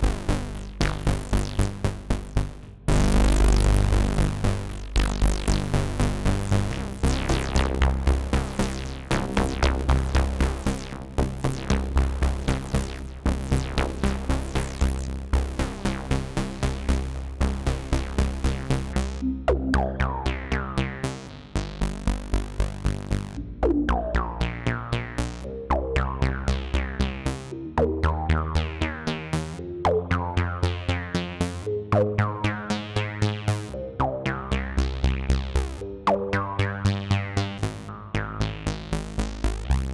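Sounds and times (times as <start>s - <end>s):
synthesizer sequence with bass line: 0.0s - 39.9s.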